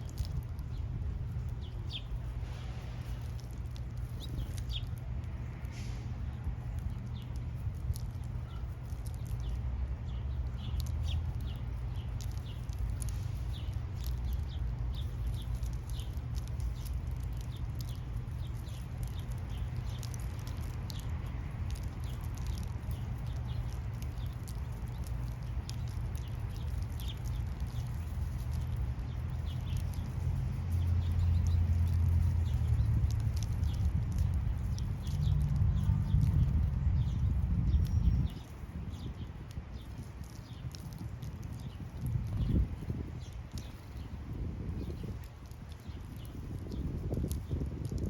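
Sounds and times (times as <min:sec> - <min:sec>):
small birds chirping: 0:00.0 - 0:48.0
steady low rumble: 0:00.0 - 0:48.0.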